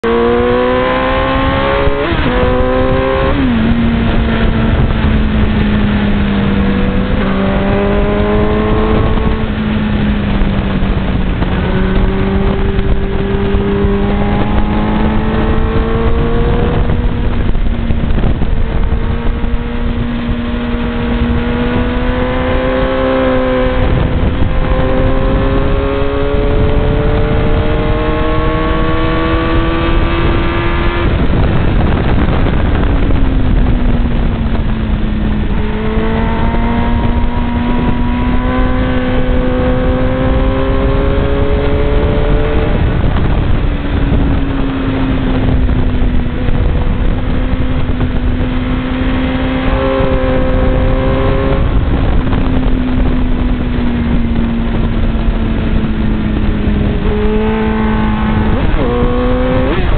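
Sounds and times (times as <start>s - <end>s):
heavy wind rush: 0.0s - 59.9s
motorcycle engine at high speed: 0.0s - 59.9s.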